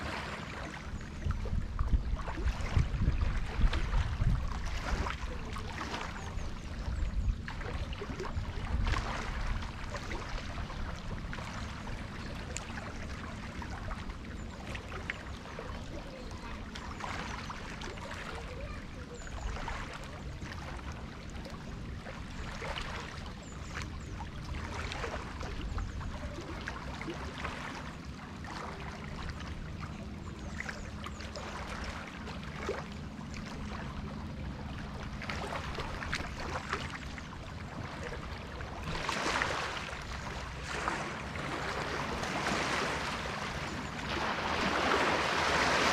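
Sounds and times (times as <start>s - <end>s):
water lapping at a jetty: 0.0s - 45.9s
water splashing: 0.0s - 45.9s.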